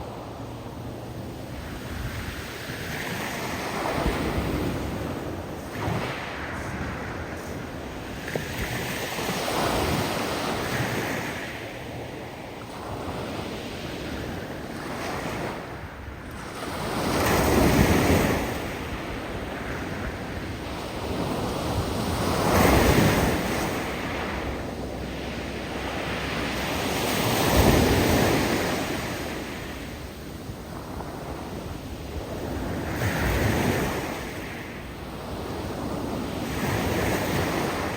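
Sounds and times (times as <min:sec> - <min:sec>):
waves breaking on beach: 0:00.0 - 0:37.9.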